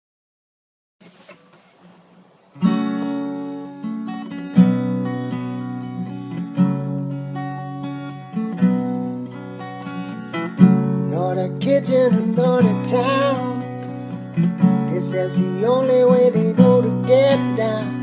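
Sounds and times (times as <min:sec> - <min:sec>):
acoustic guitar strumming chords: 0:01.0 - 0:18.0.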